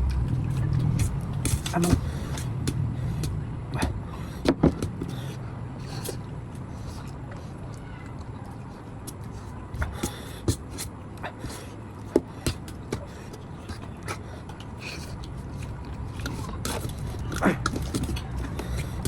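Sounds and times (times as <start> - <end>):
eating clicks and scrapes: 0.0 - 19.0
low steady hum: 0.0 - 19.0.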